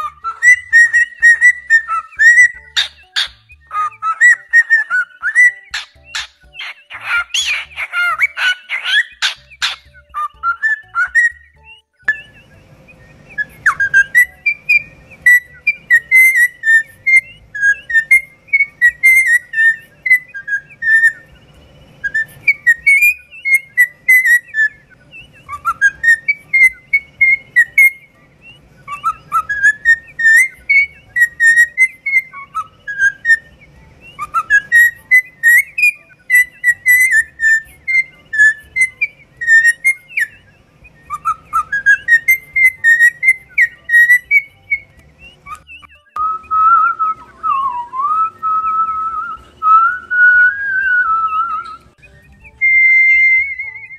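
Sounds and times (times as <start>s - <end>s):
cockatiel whistling: 0.0s - 53.9s.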